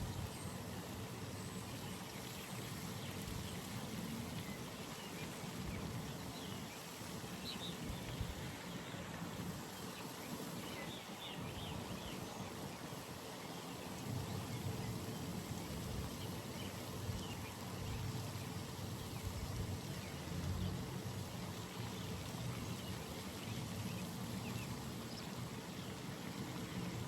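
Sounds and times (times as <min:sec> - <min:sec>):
rush of running water: 0:00.0 - 0:27.0.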